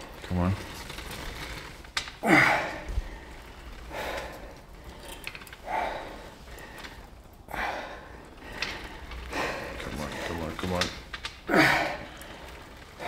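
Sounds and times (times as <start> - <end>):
man breathing heavily: 0.0 - 10.5, 11.5 - 13.0.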